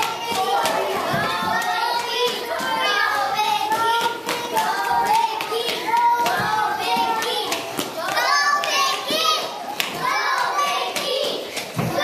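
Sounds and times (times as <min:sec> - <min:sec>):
sharp claps and smacks: 0:00.0 - 0:09.0, 0:09.7 - 0:12.0
children shouting: 0:00.0 - 0:12.0.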